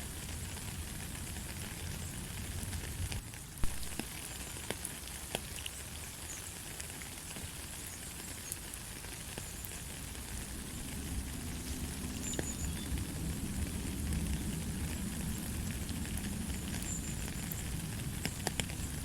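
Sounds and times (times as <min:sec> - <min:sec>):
raindrops ticking on a surface: 0:00.0 - 0:19.0
steady rain hiss: 0:00.0 - 0:19.0.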